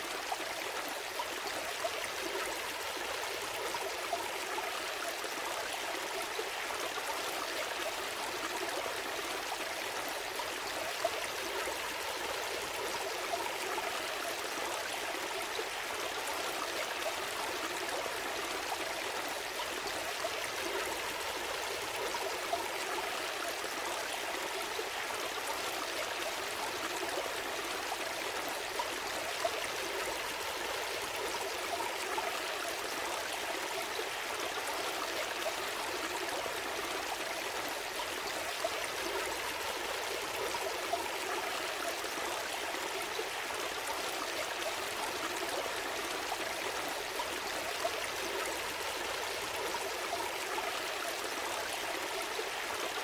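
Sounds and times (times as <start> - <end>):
stream flowing and trickling: 0.0 - 53.0.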